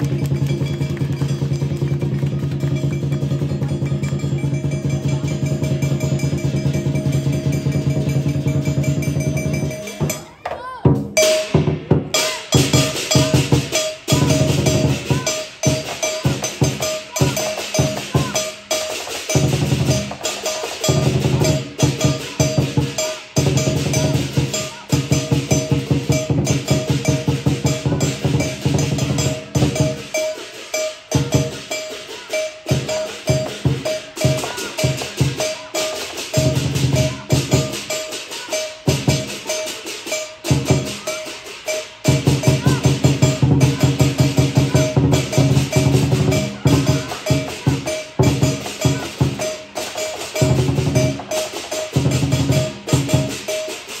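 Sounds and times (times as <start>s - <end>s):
gong: 0.0s - 10.3s, 11.2s - 54.0s
big drum beating: 0.0s - 54.0s
cymbals clashing: 0.0s - 54.0s.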